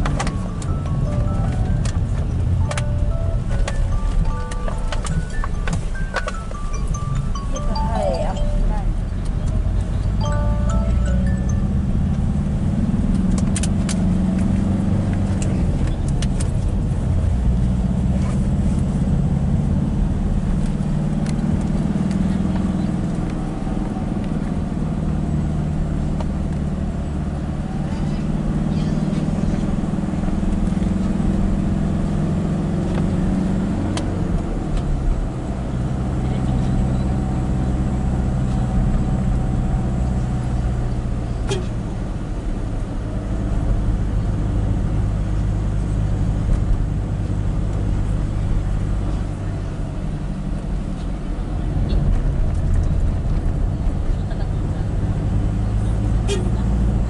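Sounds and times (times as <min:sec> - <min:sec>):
engine and road noise inside car: 0:00.0 - 0:57.0.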